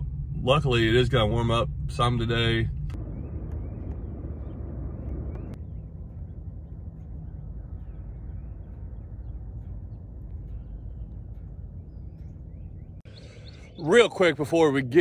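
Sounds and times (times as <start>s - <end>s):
low steady rumble: 0.0s - 15.0s
birds chirping: 0.4s - 15.0s.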